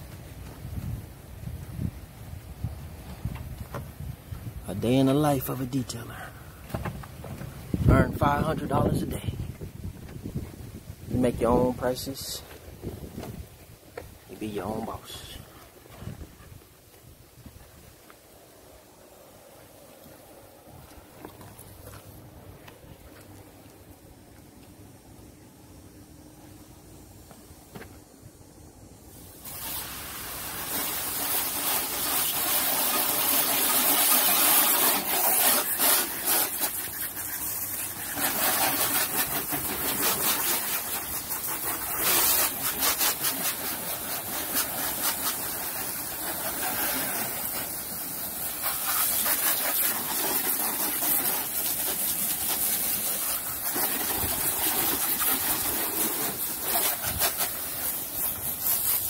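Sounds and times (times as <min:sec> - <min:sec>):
hose water spraying on car: 0:00.0 - 0:28.2, 0:28.9 - 0:59.0.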